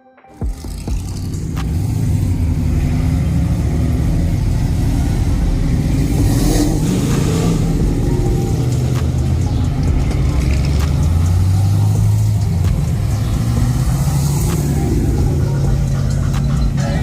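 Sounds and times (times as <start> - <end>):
car engine rumbling: 0.4 - 17.0.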